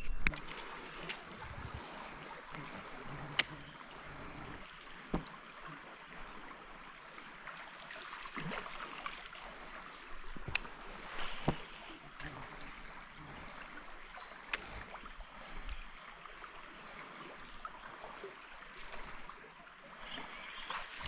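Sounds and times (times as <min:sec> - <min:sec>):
paddle splashing water: 0:00.0 - 0:21.0
running stream: 0:00.0 - 0:21.0.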